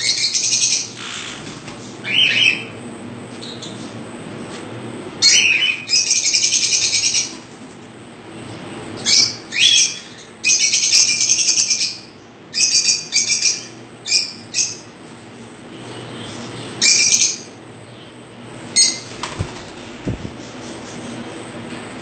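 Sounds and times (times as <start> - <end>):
birds chattering and chirping: 0.0 - 4.0, 5.2 - 7.5, 8.2 - 21.5.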